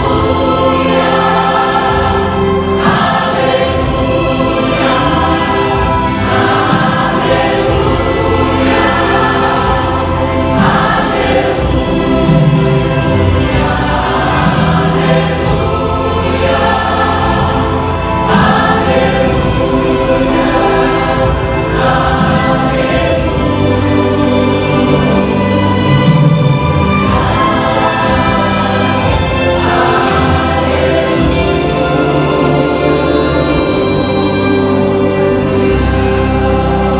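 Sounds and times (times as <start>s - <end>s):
instrumental accompaniment: 0.0s - 36.9s
vocal group singing: 0.0s - 36.9s.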